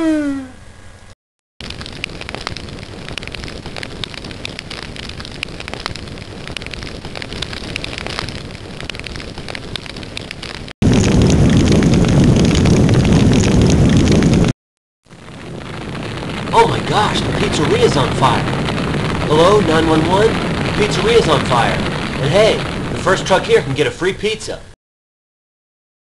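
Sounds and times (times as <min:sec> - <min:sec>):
fire crackling with pops: 0:01.6 - 0:14.5, 0:15.1 - 0:24.6
loud deep blaze: 0:01.6 - 0:24.8.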